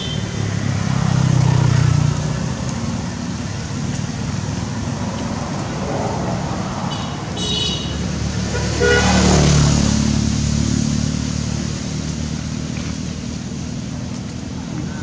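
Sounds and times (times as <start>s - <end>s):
motor vehicle passing by: 0.0s - 15.0s
steady traffic rumble: 0.0s - 15.0s.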